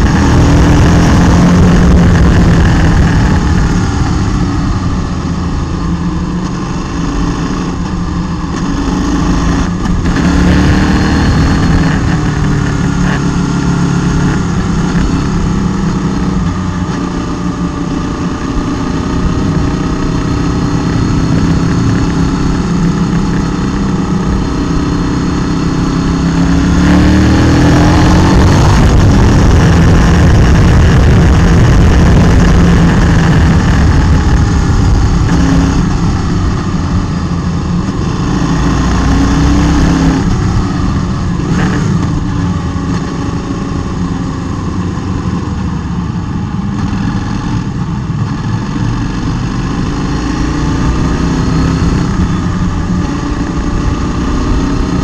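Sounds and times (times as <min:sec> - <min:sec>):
motorcycle engine riding uphill: 0:00.0 - 0:55.0.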